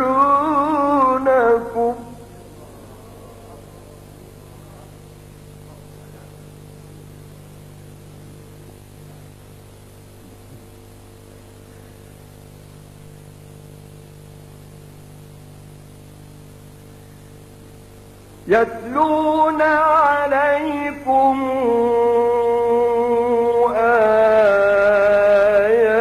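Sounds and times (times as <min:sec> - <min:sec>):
constant hiss: 0:00.0 - 0:26.0
electrical hum: 0:00.0 - 0:26.0.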